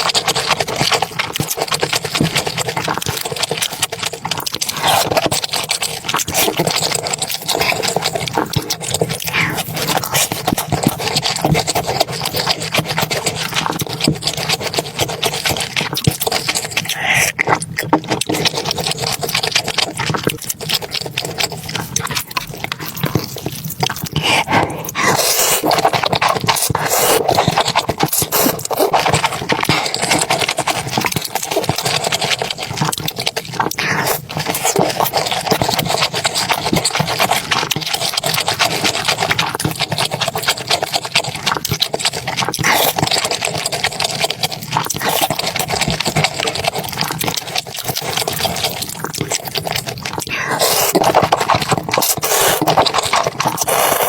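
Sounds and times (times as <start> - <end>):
crunching and chewing food: 0.0 - 54.0.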